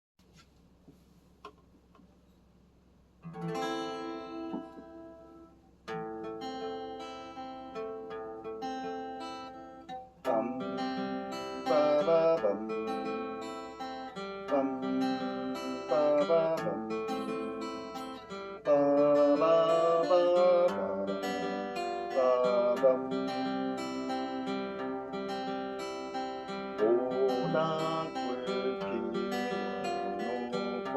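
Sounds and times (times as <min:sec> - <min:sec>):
acoustic guitar playing: 0:03.2 - 0:30.9.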